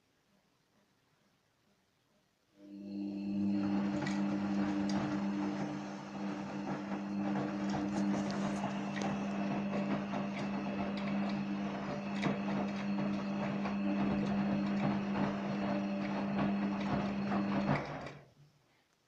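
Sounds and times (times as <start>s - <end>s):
washing machine humming: 2.6s - 18.2s.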